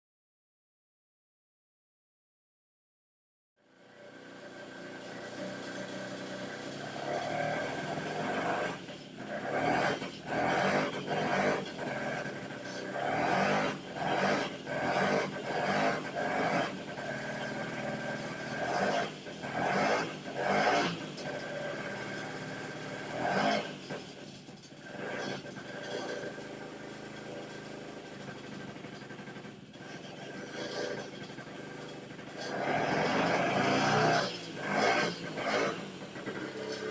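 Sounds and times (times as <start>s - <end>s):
two-stroke engine idling: 3.6s - 36.9s
two-stroke engine revving: 3.6s - 36.9s.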